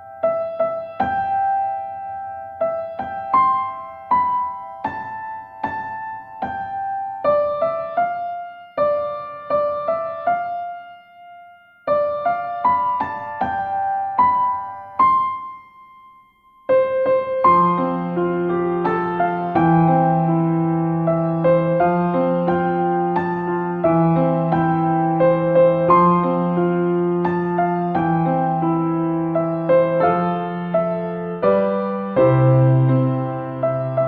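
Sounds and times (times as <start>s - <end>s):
gentle piano melody: 0.0s - 34.0s.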